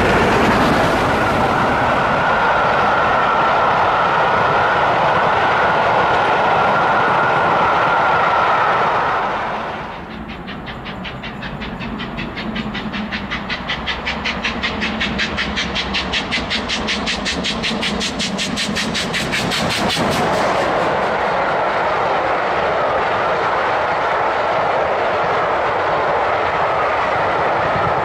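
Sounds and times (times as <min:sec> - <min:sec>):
steam locomotive exhaust beats: 0:00.0 - 0:28.0
train coaches rolling by: 0:00.0 - 0:28.0.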